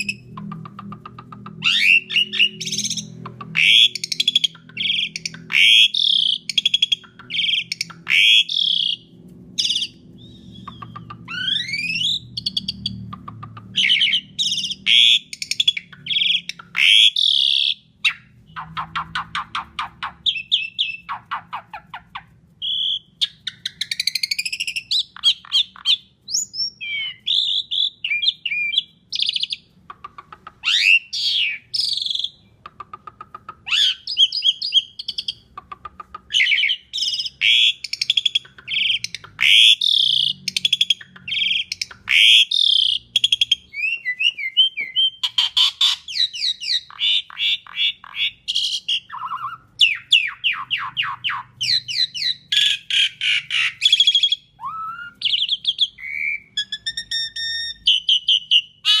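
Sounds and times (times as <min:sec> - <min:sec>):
starling singing: 0:00.0 - 0:59.0.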